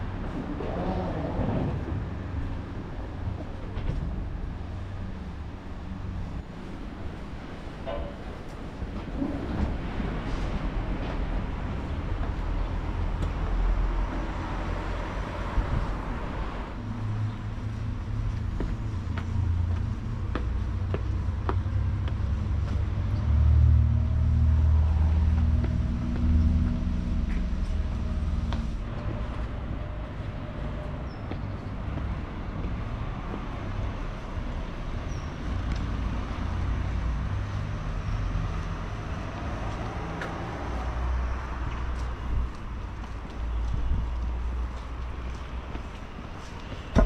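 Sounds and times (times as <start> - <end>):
vehicle engine rumble: 0.0 - 47.0.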